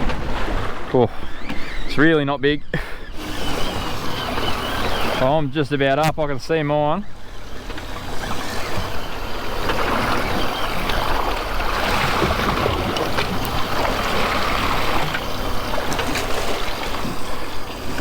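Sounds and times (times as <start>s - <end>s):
sea water washing around boat: 0.0s - 2.1s, 3.2s - 6.1s, 7.0s - 18.0s.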